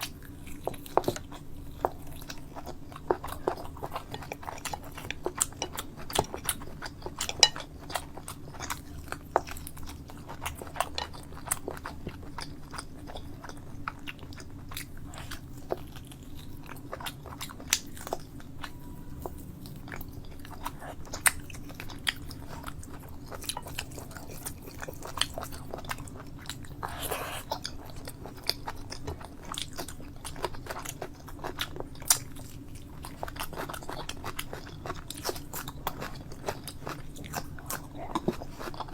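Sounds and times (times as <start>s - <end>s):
person chewing and biting: 0.0s - 38.9s
steady low hum: 0.0s - 38.9s.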